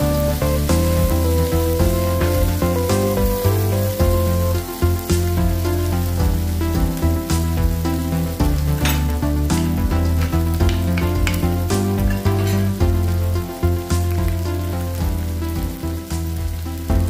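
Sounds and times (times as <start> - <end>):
food sizzling in a pan: 0.0 - 17.0
music with steady bass line: 0.0 - 17.0.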